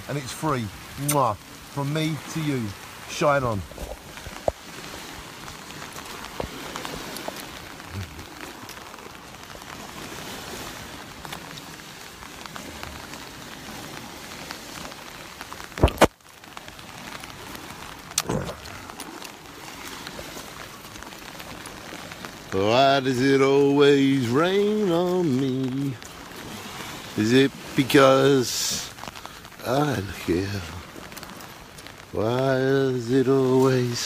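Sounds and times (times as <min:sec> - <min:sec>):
rain falling: 0:00.0 - 0:34.0
small waves washing onto shore: 0:00.0 - 0:34.0.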